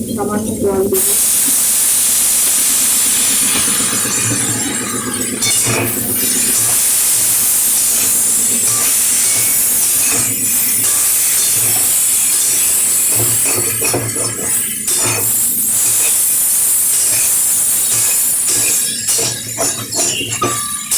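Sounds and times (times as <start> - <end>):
curry sizzling in hot oil: 1.0 - 20.9.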